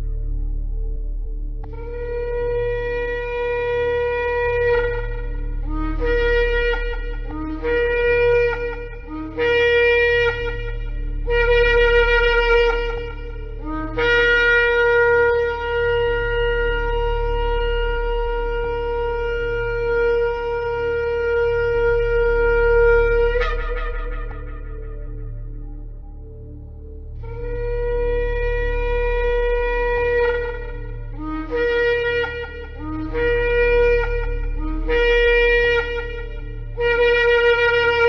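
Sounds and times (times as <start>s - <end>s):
shofar blasts: 1.6s - 26.4s, 27.2s - 38.0s.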